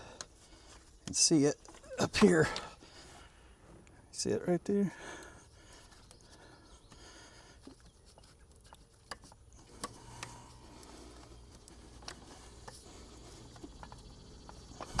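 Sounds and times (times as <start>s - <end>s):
hand tools clicking and scraping: 0.0s - 3.3s, 5.0s - 15.0s.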